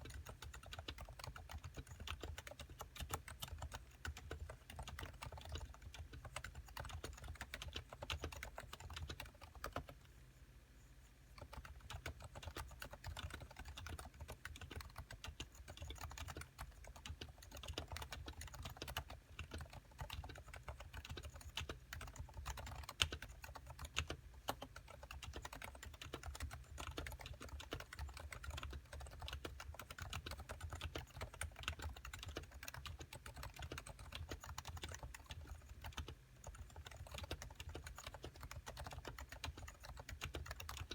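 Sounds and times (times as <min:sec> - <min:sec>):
fast typing soft key clicks: 0:00.0 - 0:10.0, 0:11.4 - 0:40.9.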